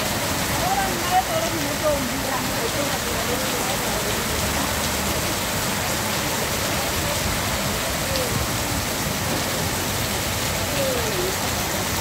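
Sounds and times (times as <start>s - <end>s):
heavy rain falling: 0.0s - 12.0s
runoff splashing onto pavement: 0.0s - 12.0s.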